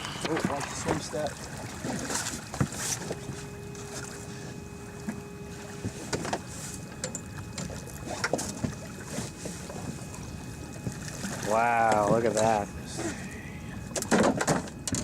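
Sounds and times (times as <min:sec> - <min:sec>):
thin steady hum: 0:00.0 - 0:15.0
wind and water noise: 0:00.0 - 0:15.0.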